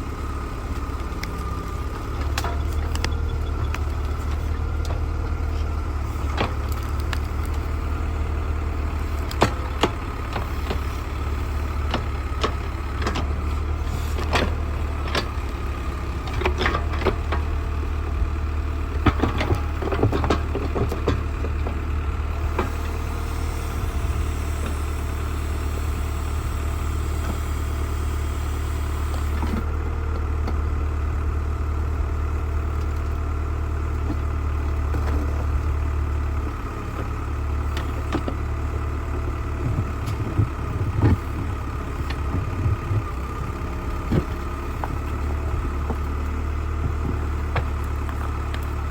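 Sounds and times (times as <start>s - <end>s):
tractor engine droning: 0.0s - 48.9s.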